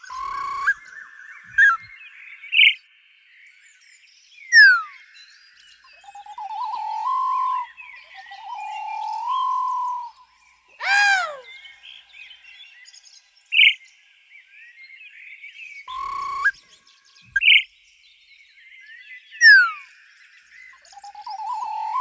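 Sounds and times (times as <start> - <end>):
bird calls: 0.0 - 2.8, 4.4 - 13.9, 14.6 - 17.8, 19.0 - 22.0
background birds chirping: 0.0 - 22.0.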